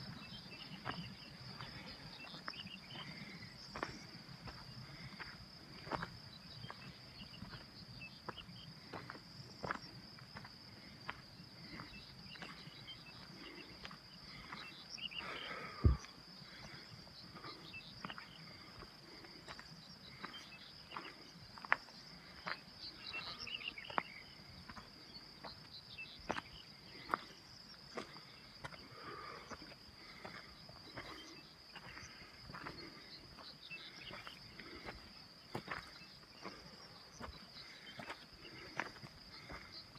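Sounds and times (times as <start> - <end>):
footsteps crunching on stony ground: 0.0 - 39.9
insects chirring: 0.0 - 39.9.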